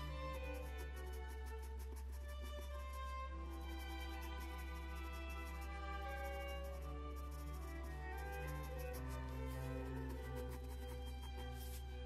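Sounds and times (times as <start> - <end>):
soft string-like music: 0.0 - 12.0.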